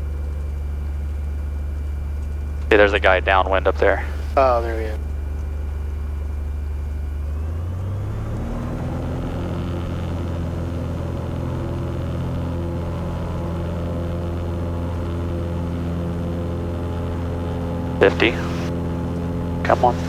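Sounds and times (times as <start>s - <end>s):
light aircraft engine and propeller: 0.0s - 20.0s.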